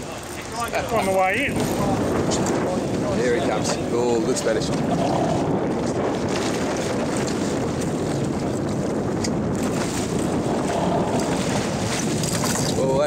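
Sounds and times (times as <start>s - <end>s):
water rushing along boat hull: 0.0s - 13.0s
wind noise on microphone: 0.0s - 13.0s.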